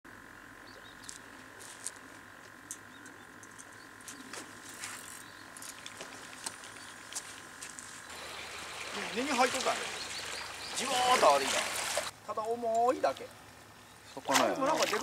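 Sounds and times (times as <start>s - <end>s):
faint steady hum: 0.1s - 14.6s.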